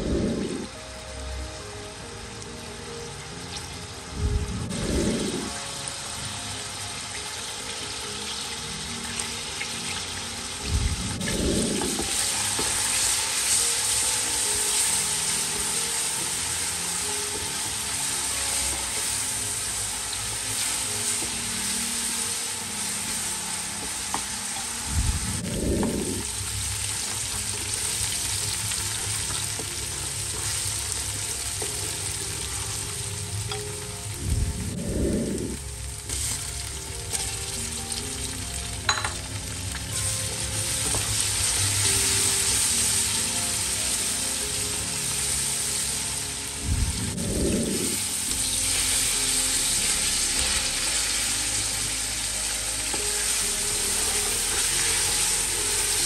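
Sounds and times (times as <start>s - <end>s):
onion sizzling in hot oil: 0.0s - 56.0s.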